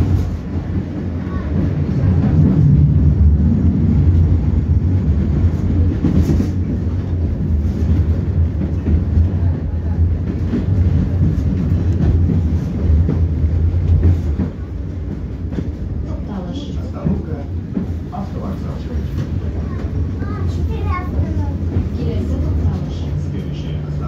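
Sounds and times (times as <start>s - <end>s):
tram wheels rumbling on rails: 0.0s - 24.0s.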